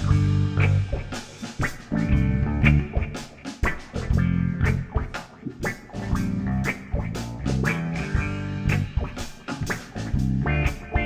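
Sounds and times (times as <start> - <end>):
bass guitar: 0.0 - 11.0
drum kit steady beat: 0.0 - 11.0
electric guitar: 0.0 - 11.0
keyboard: 0.0 - 11.0.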